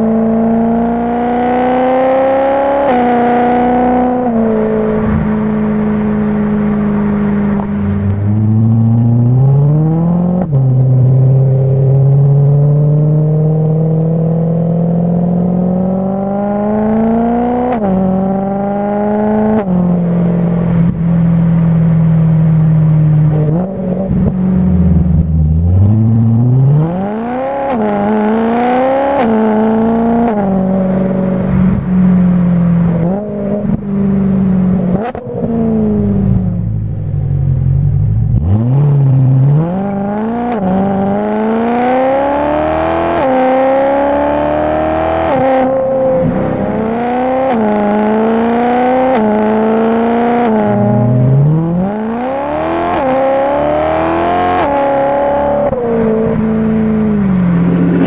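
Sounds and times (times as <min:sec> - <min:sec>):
car engine revving through gears: 0:00.0 - 0:21.0, 0:23.1 - 0:58.0.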